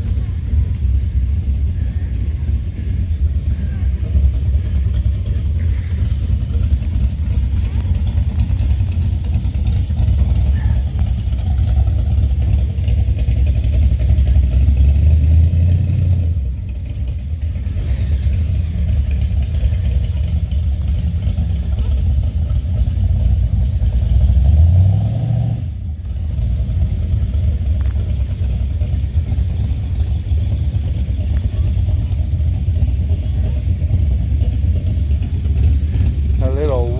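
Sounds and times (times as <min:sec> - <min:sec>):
cars driving past rumbling: 0:00.0 - 0:36.9.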